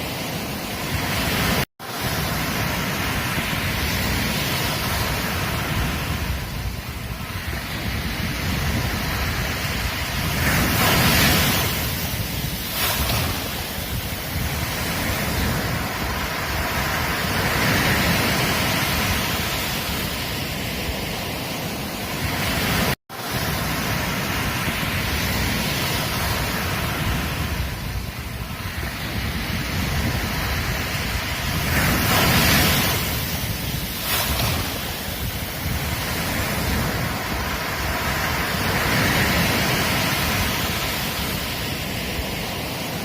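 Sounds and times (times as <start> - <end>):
ocean waves washing onto beach: 0.0 - 43.0.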